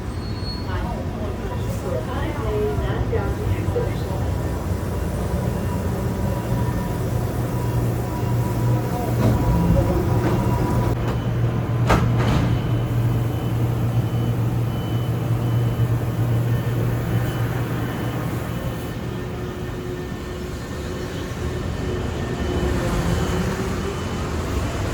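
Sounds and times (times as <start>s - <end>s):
bus engine droning: 0.0s - 24.9s.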